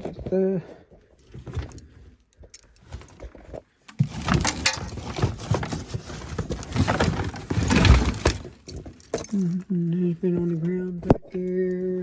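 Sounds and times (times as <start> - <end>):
rustling and clattering of items: 0.0 - 12.0.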